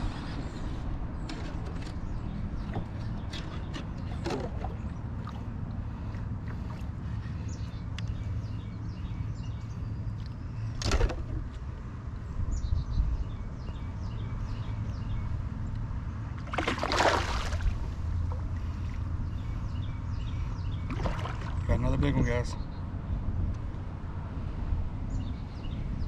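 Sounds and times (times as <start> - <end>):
birds chirping: 0.0 - 16.4, 17.1 - 23.9, 25.1 - 26.0
wind rumble on microphone: 0.0 - 16.4, 17.2 - 26.0.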